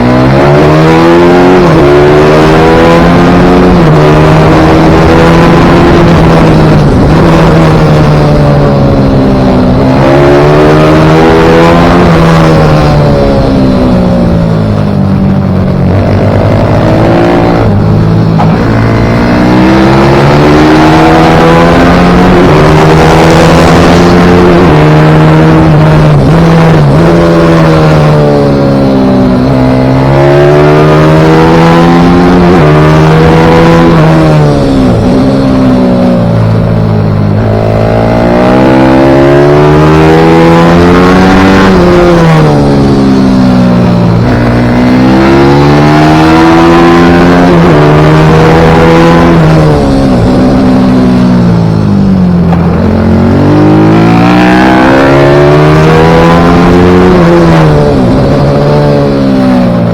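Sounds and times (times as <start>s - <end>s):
motorbike engine revving hard: 0.0s - 15.0s, 15.6s - 59.9s.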